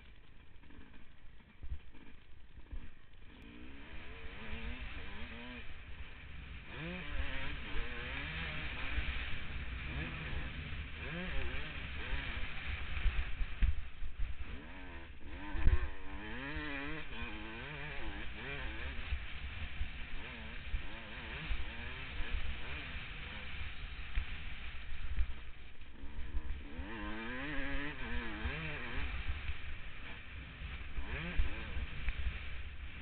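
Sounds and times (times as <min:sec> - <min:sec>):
motocross engine revving: 0:01.9 - 0:33.0.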